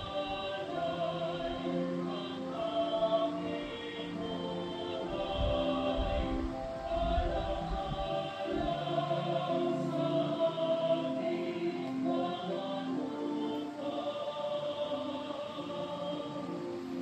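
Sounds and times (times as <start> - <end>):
choir singing hymn-like chords: 0.0 - 17.0.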